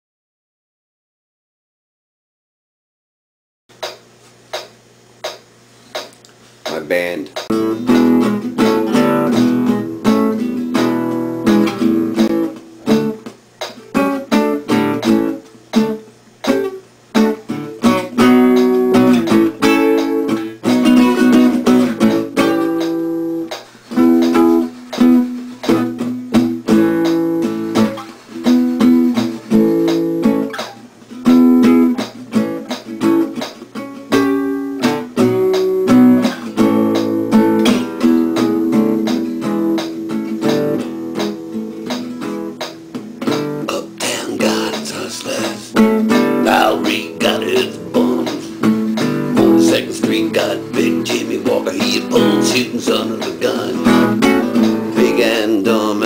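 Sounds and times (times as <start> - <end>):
acoustic guitar chords strummed: 3.7 - 56.0.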